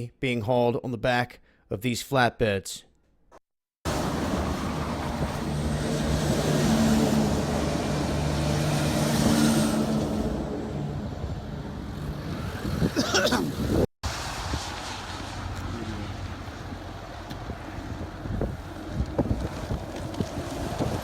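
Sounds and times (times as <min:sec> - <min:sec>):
trucks driving by: 0:03.9 - 0:21.0
tyre and road noise: 0:03.9 - 0:21.0.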